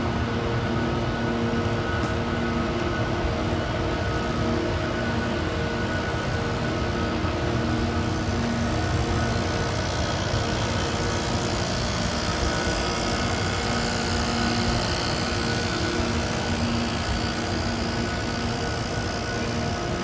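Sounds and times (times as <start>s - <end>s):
constant noise wash: 0.0s - 20.0s
faint steady tones: 0.0s - 20.0s
mechanical hum: 0.0s - 20.0s.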